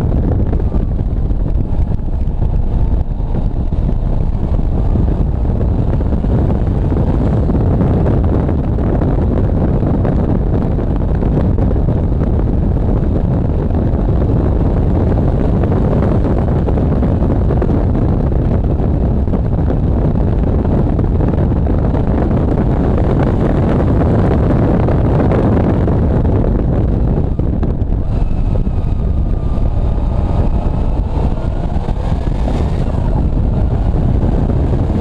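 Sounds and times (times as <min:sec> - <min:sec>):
car engine: 0:00.0 - 0:35.0
road noise: 0:00.0 - 0:35.0
wind buffeting microphone: 0:00.0 - 0:35.0.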